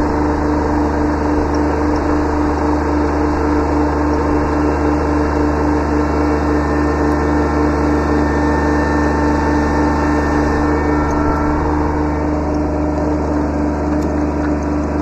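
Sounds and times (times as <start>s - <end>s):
diesel tractor engine running: 0.0s - 15.0s
strong steady tone: 0.0s - 15.0s.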